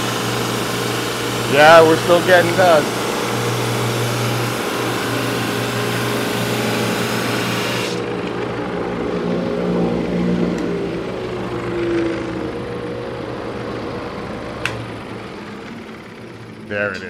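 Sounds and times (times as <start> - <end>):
drum sander machine hum: 0.0 - 17.0.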